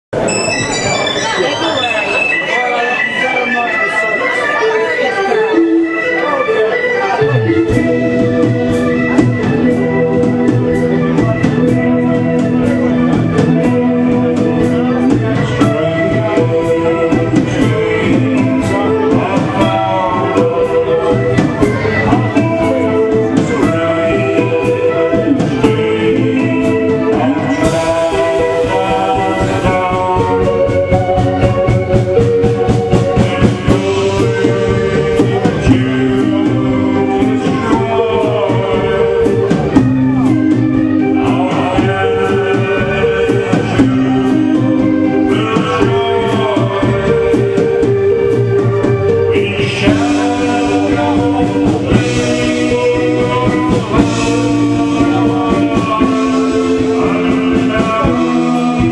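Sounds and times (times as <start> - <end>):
live rock band playing: 0.1 - 58.9
electric organ chords: 0.2 - 58.9
drum beat: 7.6 - 58.9.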